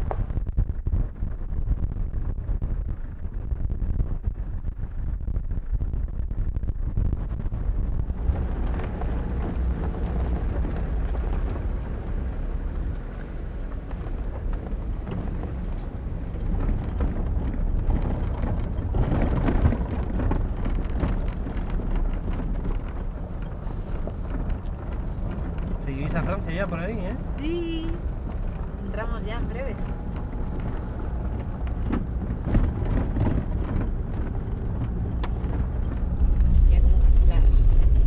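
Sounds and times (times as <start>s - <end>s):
low engine rumble: 0.0s - 38.0s.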